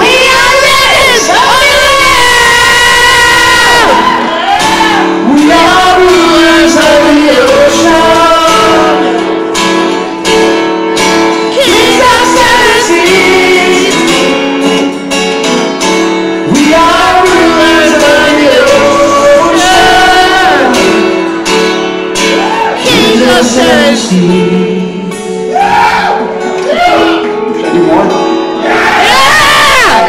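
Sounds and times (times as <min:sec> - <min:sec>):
person singing: 0:00.0 - 0:09.8, 0:11.4 - 0:15.2, 0:16.4 - 0:28.3
live band music: 0:00.0 - 0:30.0.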